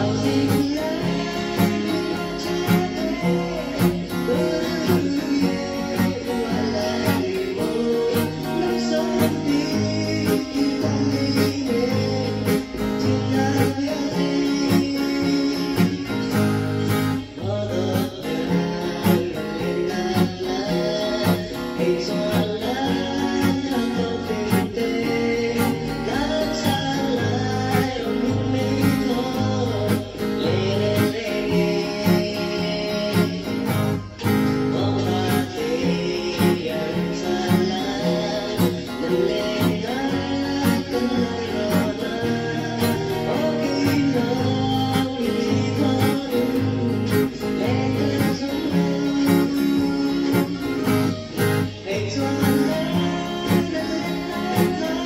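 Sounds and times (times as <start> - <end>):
acoustic guitar strumming: 0.0 - 55.0
person singing: 0.0 - 55.0.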